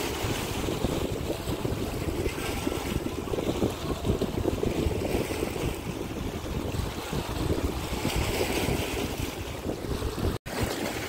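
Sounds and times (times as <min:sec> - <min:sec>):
small waves washing: 0:00.0 - 0:11.0
wind buffeting microphone: 0:00.0 - 0:11.0.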